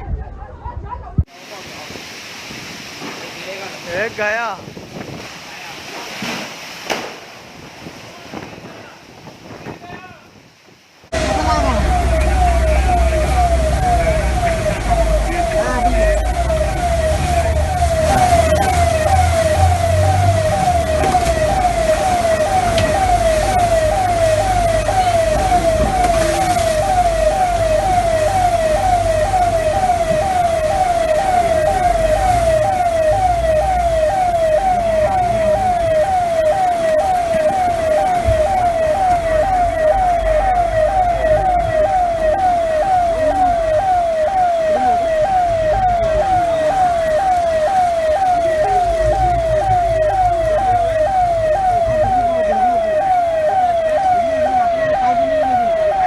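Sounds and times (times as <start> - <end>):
siren repeating falling tone: 11.1 - 56.0.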